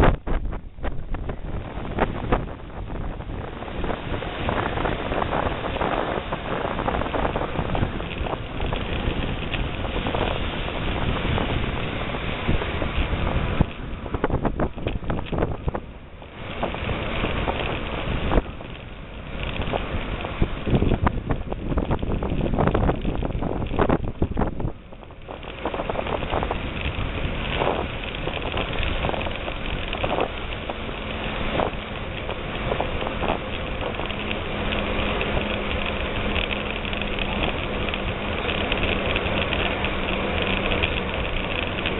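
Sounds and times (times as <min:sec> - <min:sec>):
bicycle clattering over bumps: 0:00.0 - 0:41.9
wind buffeting microphone: 0:00.0 - 0:41.9.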